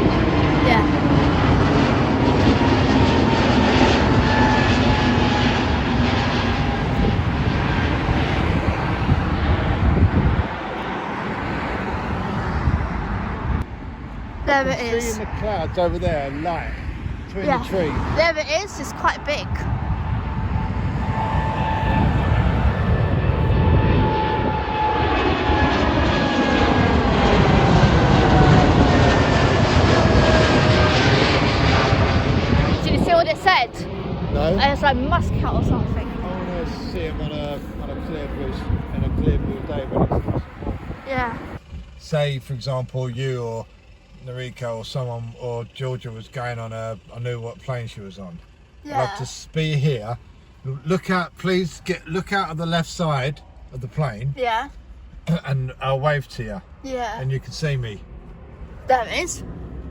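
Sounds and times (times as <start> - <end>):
jet engines rumbling overhead: 0.0 - 59.9.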